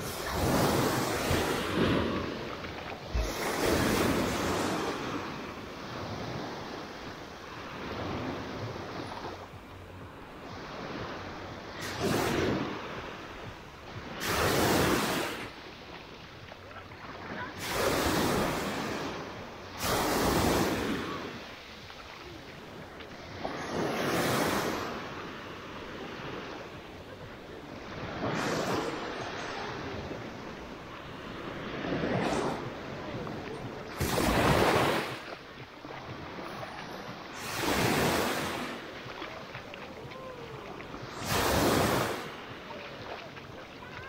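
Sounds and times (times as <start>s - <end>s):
small waves breaking on sand: 0.0s - 44.0s.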